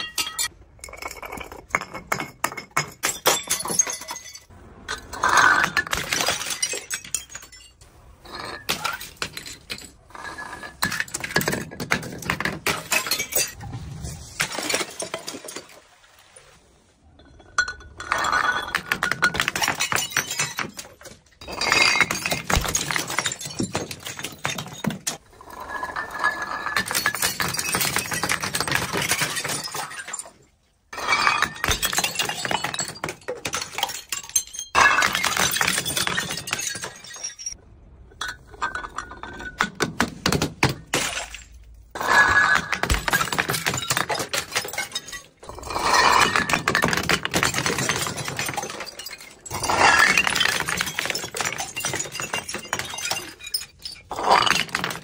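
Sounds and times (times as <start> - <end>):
glass bottles shattering on stairs: 0.0 - 13.6, 14.4 - 15.8, 17.2 - 55.0.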